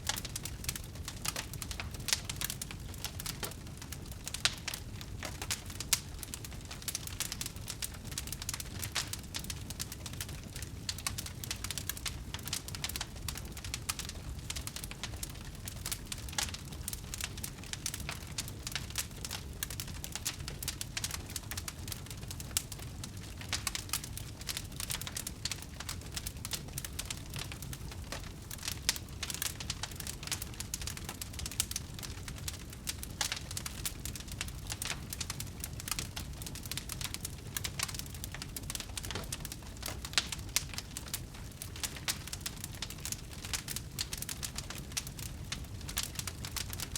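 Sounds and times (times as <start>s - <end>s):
bonfire crackling: 0.0s - 46.9s.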